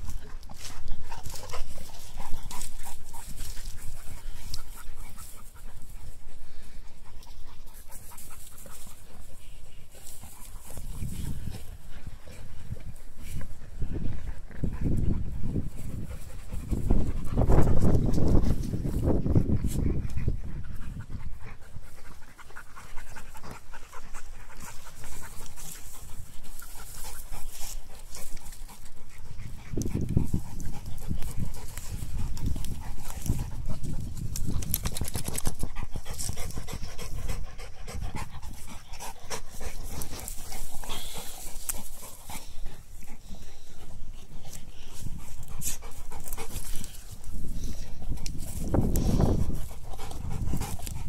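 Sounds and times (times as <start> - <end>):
dog panting: 0.0 - 51.0.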